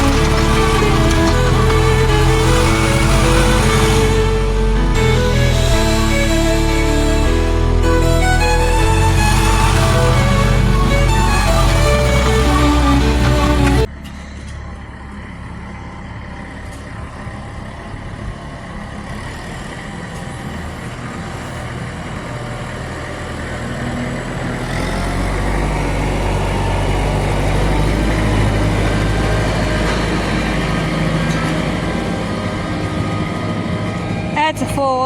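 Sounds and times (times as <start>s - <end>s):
farm machinery engine running: 0.0s - 35.0s.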